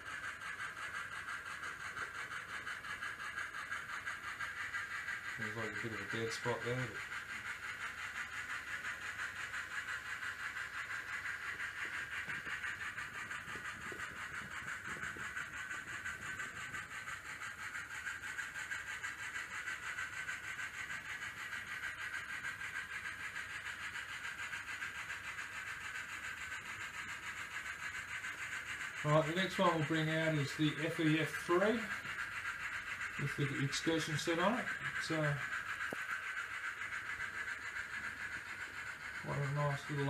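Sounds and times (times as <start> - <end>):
steam chuffing from tiny speaker: 0.0 - 40.0.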